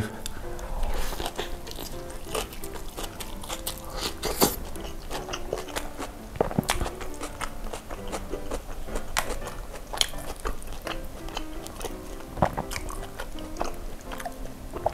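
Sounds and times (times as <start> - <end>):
soft background music: 0.0 - 14.9
wet mouth eating sounds: 0.0 - 14.9.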